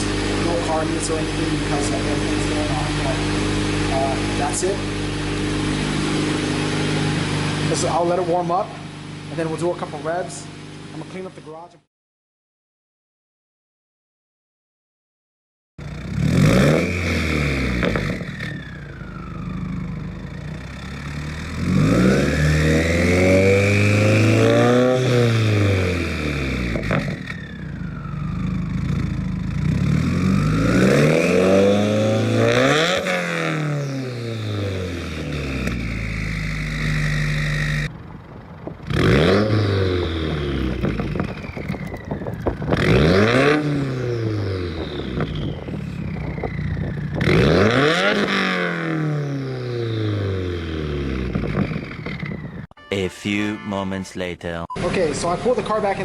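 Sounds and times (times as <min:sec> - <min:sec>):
car engine revving: 0:00.0 - 0:10.2, 0:15.8 - 0:52.6.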